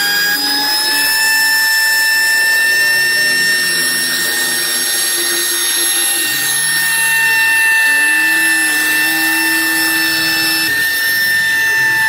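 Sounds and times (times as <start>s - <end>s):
spindle whine: 0.0s - 12.0s
stepper motor tones: 0.0s - 12.0s.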